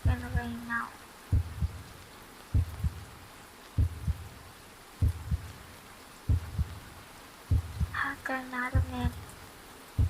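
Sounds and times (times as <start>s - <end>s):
heartbeat thumps: 0.0s - 0.6s, 1.3s - 3.2s, 3.8s - 9.4s.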